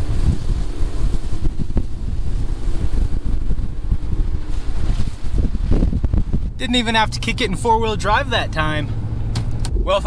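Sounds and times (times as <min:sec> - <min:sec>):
truck engine and tyres rumbling: 0:00.0 - 0:10.0
wind buffeting microphone: 0:00.0 - 0:10.0.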